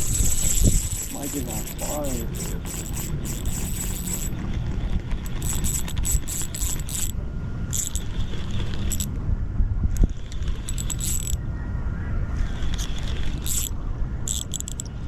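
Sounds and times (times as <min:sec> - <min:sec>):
fishing reel ratcheting whir: 0:00.0 - 0:09.1, 0:10.0 - 0:11.4, 0:12.6 - 0:15.0.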